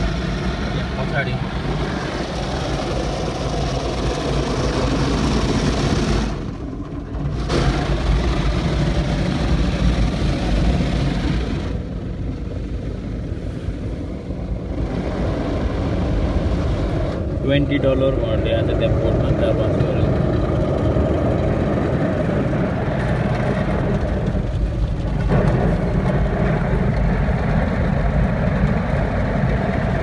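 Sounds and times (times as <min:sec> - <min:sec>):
car wash water rushing: 0:00.0 - 0:30.0
deep machinery rumble: 0:00.0 - 0:30.0.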